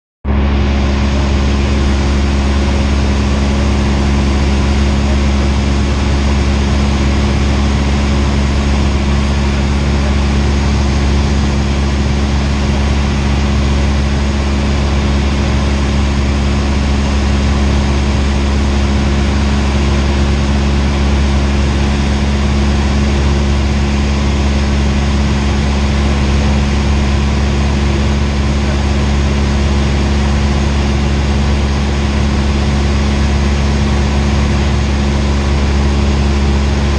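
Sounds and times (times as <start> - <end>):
propeller plane engine droning: 0.2 - 36.9.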